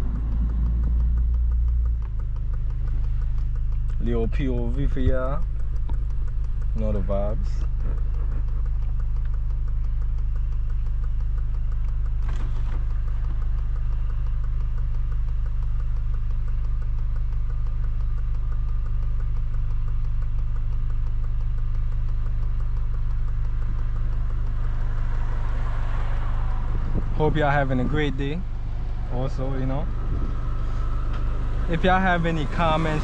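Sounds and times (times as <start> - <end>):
car engine and road drone: 0.0 - 33.0.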